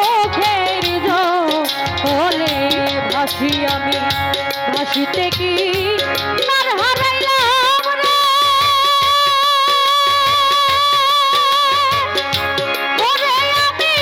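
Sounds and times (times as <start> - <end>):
woman singing folk song: 0.0 - 4.1, 4.7 - 12.1, 13.0 - 14.0
drum beats: 0.0 - 14.0
held instrumental notes: 0.0 - 14.0.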